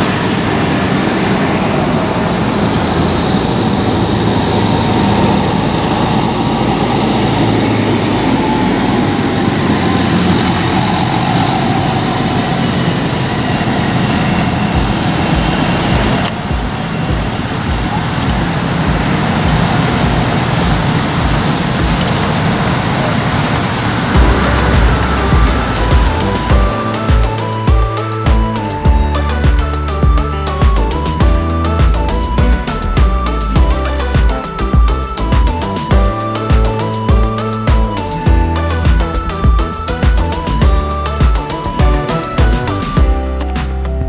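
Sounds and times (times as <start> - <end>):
tractor diesel engines humming: 0.0 - 44.0.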